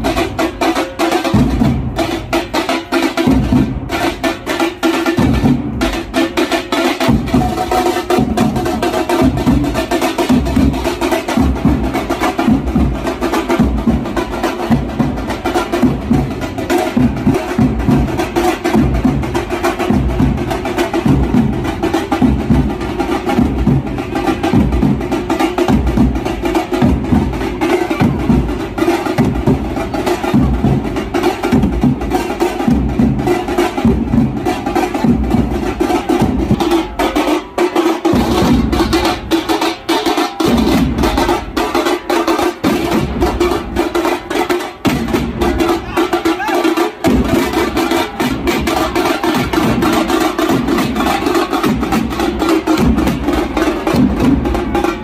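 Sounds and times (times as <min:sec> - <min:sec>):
drum band playing driving rhythm: 0:00.0 - 0:55.0.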